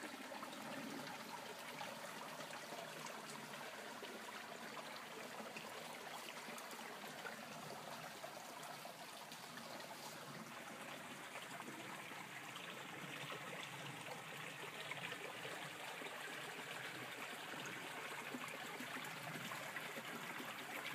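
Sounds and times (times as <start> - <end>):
stream trickling: 0.0 - 20.9.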